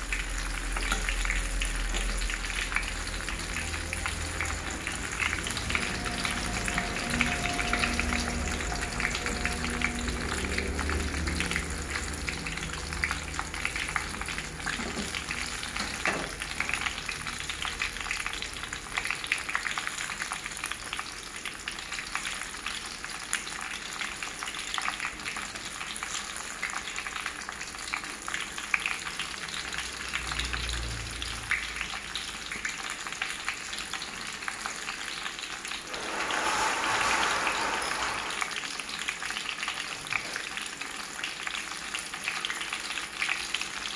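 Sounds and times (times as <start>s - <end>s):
fritters deep-frying in oil: 0.0s - 43.9s.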